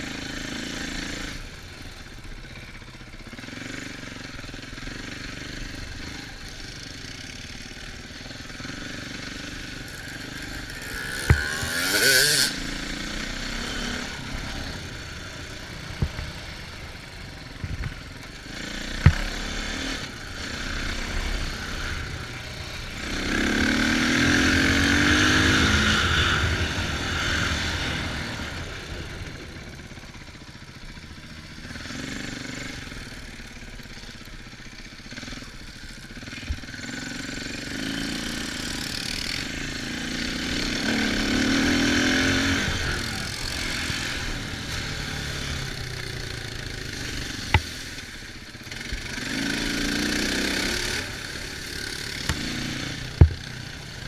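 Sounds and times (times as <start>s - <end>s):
dirt bike engine revving: 0.0s - 2.7s, 3.3s - 30.2s, 31.5s - 34.2s, 34.8s - 54.0s.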